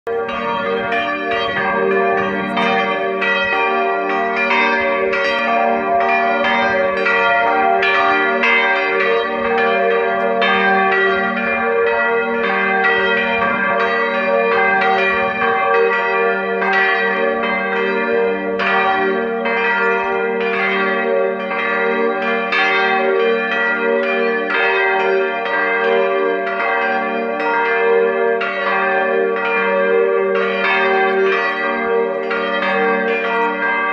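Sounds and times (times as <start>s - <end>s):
church bells pealing: 0.1s - 33.9s.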